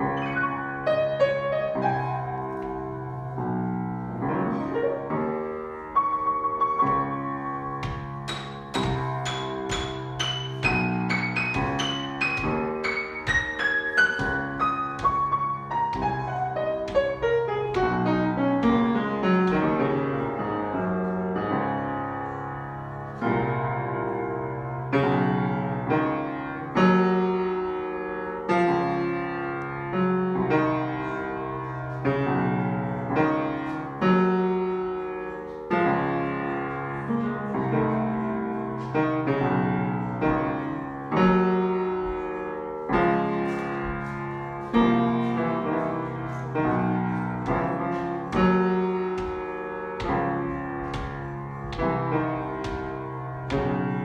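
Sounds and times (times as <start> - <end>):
grand piano chords: 0.0 - 54.0.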